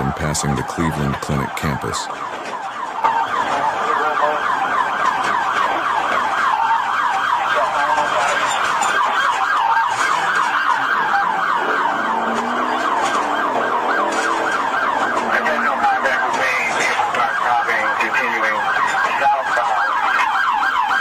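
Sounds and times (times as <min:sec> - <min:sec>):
police siren yelping: 0:00.0 - 0:21.0.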